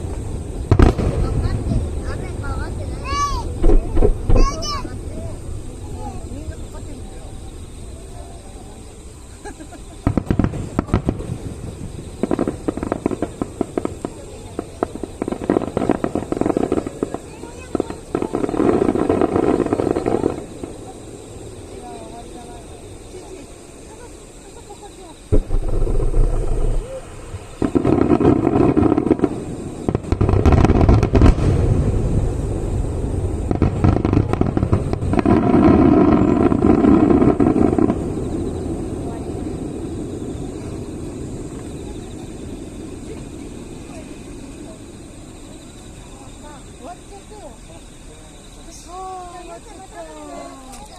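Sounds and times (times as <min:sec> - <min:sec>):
fireworks crackling and banging: 0:00.0 - 0:50.9.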